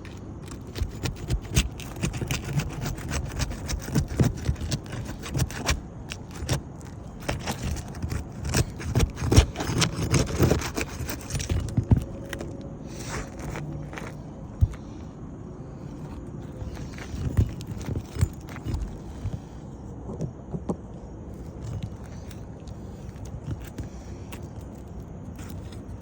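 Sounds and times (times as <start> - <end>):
metal tool scraping under shingles: 0.0 - 19.9, 21.3 - 26.0.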